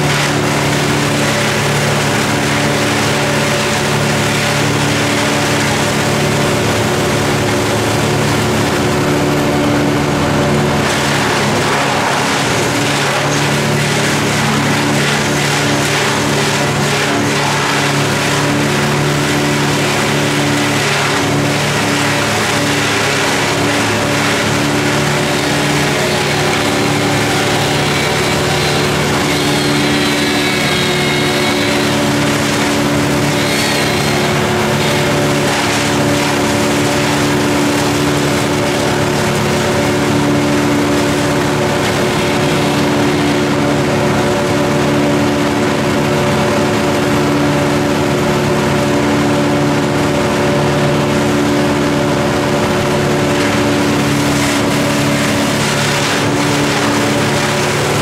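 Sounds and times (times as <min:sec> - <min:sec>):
engine humming steadily: 0:00.0 - 0:58.0.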